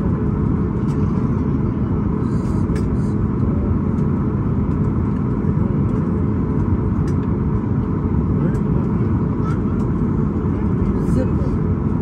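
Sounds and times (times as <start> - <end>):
jet engines idling in cabin: 0.0 - 12.0.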